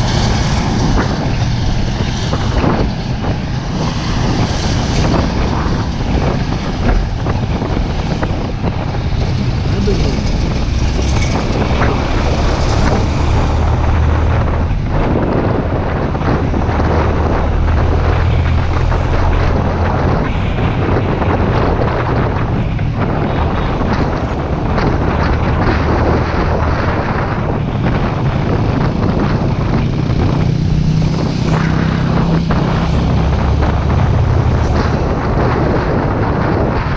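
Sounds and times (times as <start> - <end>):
wind noise on microphone: 0.0 - 36.9.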